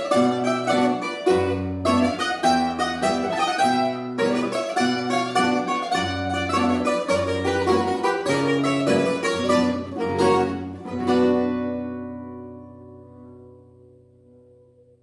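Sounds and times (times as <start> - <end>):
bouzoukis and guitar plucking: 0.0 - 15.0.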